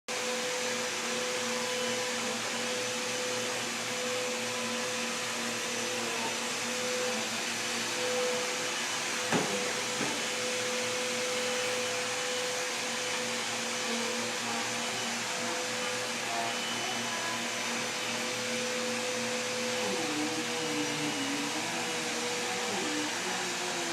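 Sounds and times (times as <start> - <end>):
vacuum cleaner running: 0.1 - 23.9.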